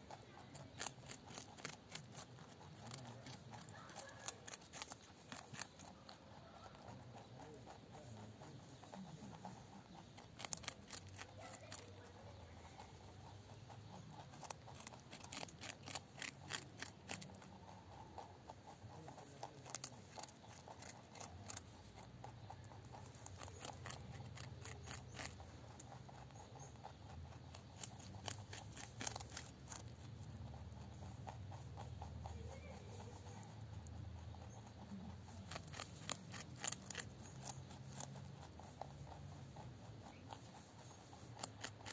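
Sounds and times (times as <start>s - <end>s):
faint low hum: 0.0s - 41.9s
rabbits crunching carrot: 0.0s - 41.9s.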